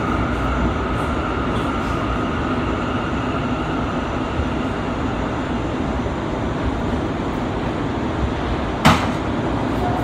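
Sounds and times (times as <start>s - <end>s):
subway car rumble on rails: 0.0s - 10.0s.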